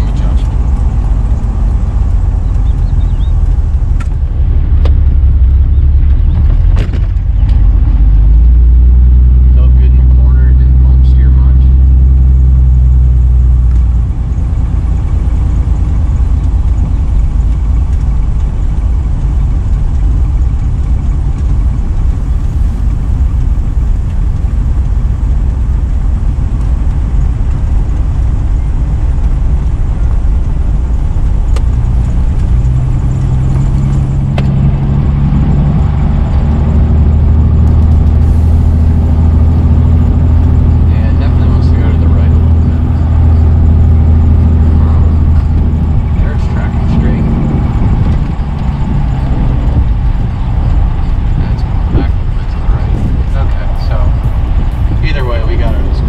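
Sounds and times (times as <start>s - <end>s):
car engine accelerating: 0.0s - 56.0s
road noise inside car: 0.0s - 56.0s.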